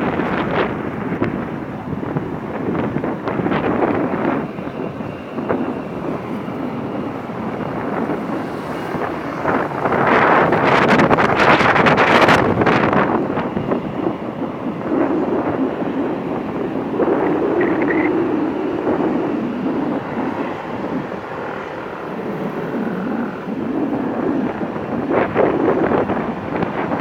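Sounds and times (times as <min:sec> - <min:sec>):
jet engines roaring: 0:00.0 - 0:27.0
wind buffeting microphone: 0:00.0 - 0:27.0.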